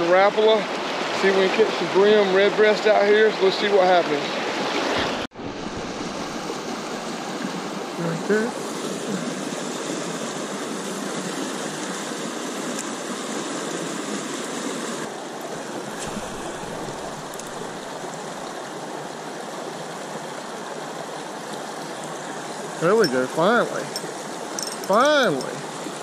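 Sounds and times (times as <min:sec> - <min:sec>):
river water rushing over rocks: 0:00.0 - 0:26.0.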